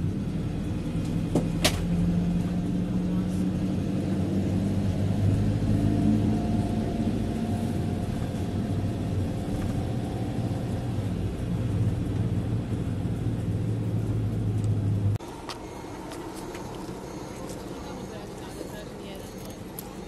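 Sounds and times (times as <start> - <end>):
road rumble: 0.0 - 20.0
vehicle engine drone: 0.0 - 20.0.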